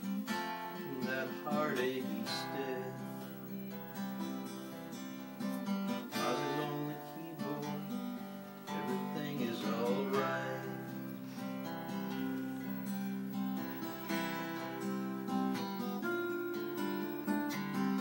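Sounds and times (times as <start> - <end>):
acoustic guitar strummed and picked: 0.0 - 18.0.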